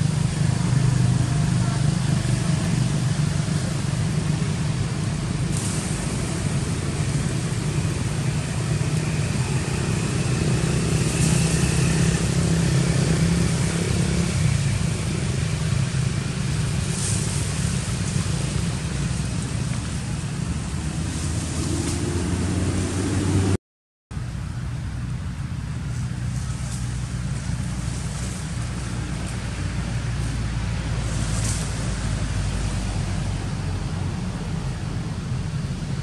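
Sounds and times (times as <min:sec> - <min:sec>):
low engine rumble: 0:00.0 - 0:36.0.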